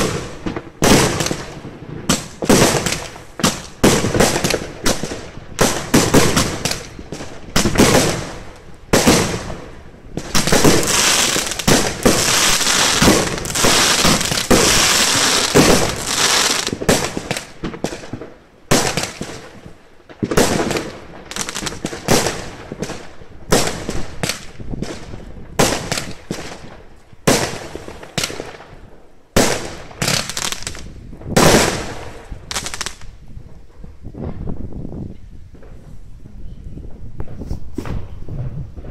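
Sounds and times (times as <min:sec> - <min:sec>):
fireworks bangs: 0:00.0 - 0:28.8, 0:29.4 - 0:38.9
fireworks crackling: 0:00.0 - 0:28.8, 0:29.4 - 0:34.8.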